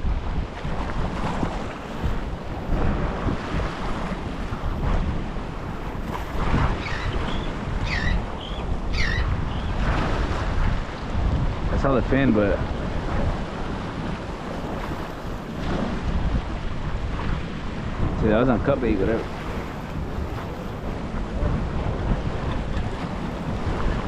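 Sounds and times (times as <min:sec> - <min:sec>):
surf washing against rocks: 0:00.0 - 0:24.0
wind buffeting microphone: 0:00.0 - 0:24.0.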